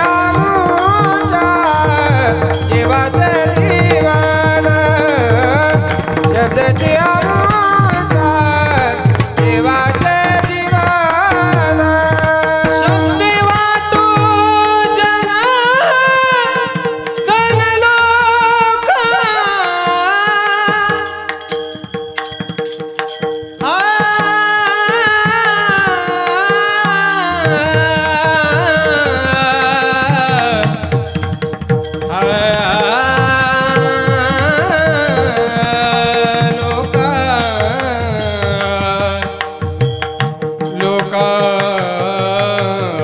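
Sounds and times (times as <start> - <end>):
man singing gliding notes: 0.0 - 22.0, 23.6 - 43.0.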